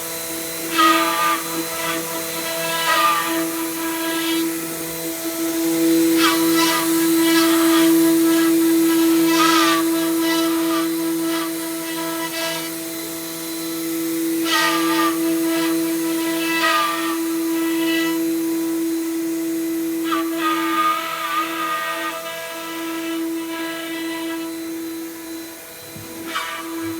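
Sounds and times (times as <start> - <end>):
router spindle high whine: 0.0 - 26.9.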